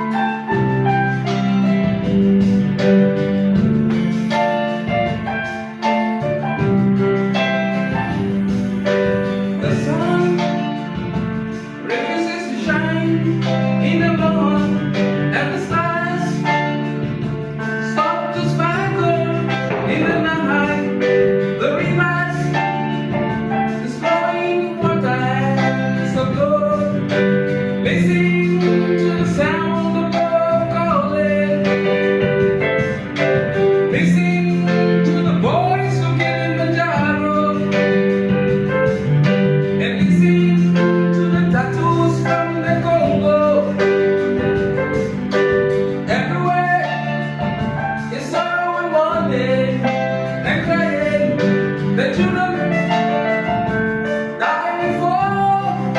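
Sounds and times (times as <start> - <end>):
instrumental accompaniment: 0.0 - 55.9
person singing a melody: 0.0 - 55.9.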